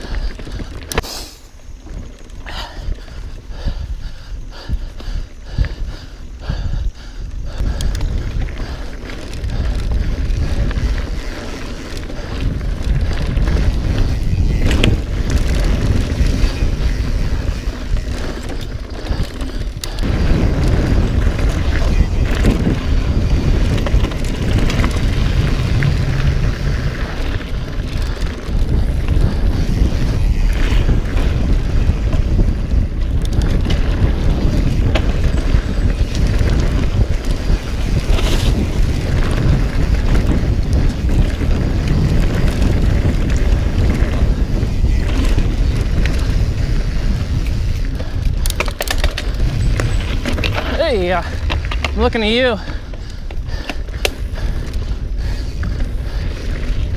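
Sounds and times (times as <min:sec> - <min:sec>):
tyre noise on dirt: 0:00.0 - 0:03.8, 0:07.2 - 0:56.9
bike clicks and rattles: 0:00.0 - 0:56.9
wind buffeting microphone: 0:00.0 - 0:56.9.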